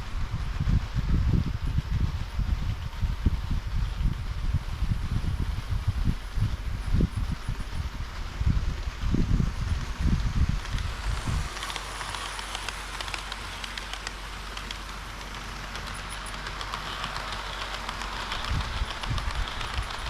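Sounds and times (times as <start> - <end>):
low rumble: 0.0 - 20.0
model train wheels rattling: 0.4 - 20.0.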